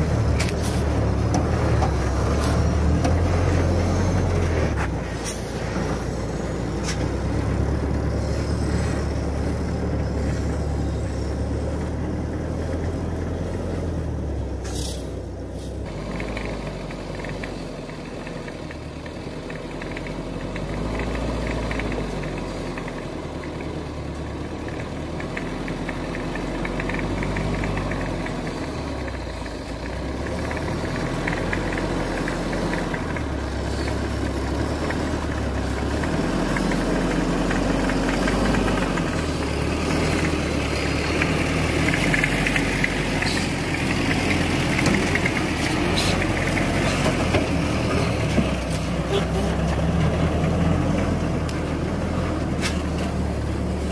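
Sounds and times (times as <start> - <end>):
truck engine passing: 0.0 - 53.9.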